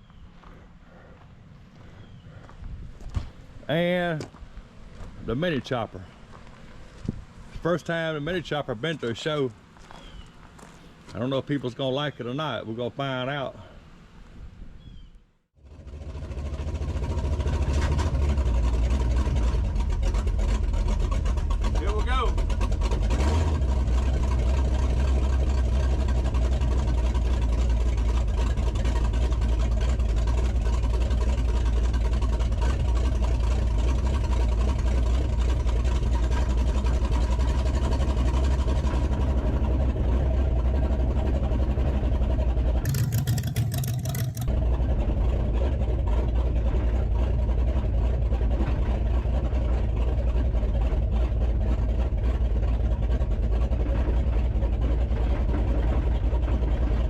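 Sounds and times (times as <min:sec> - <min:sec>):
vehicle engine and road drone: 0:00.0 - 0:57.0.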